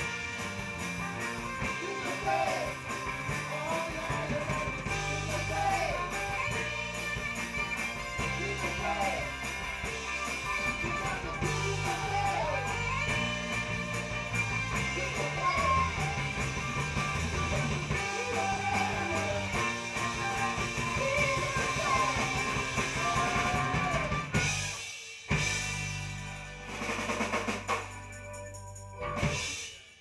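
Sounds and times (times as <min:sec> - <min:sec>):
drum roll and cymbals: 0:00.0 - 0:28.3, 0:29.1 - 0:30.0
rock band playing: 0:00.0 - 0:30.0.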